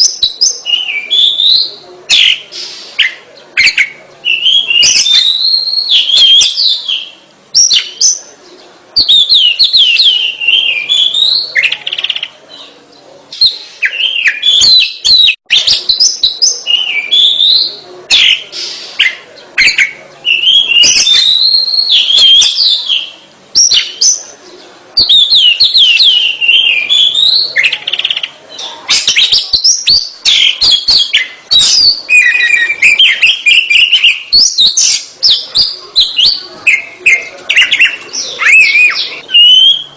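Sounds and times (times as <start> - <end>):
bird whistling song: 0.0 - 8.3, 9.0 - 12.3, 13.3 - 24.3, 25.0 - 28.3, 28.9 - 39.9.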